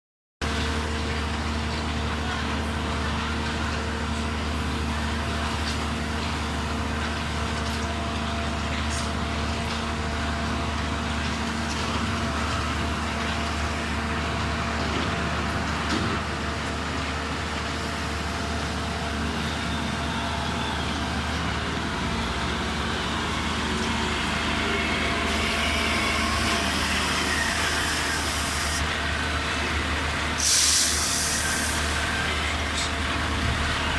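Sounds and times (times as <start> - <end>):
truck engine humming: 0.5 - 33.9.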